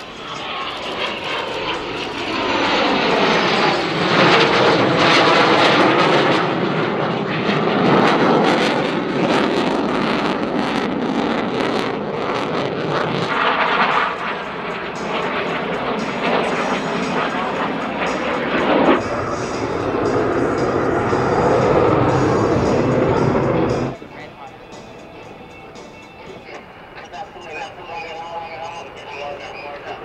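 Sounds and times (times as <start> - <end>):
jet engine roar: 0.0 - 30.0.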